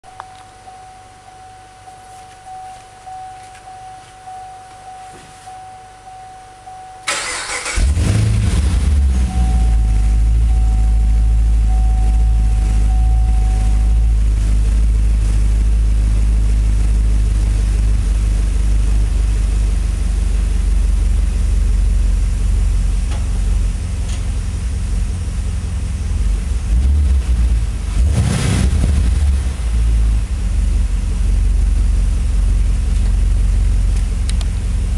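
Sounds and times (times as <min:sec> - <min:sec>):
car engine starting and running: 0:06.1 - 0:34.9.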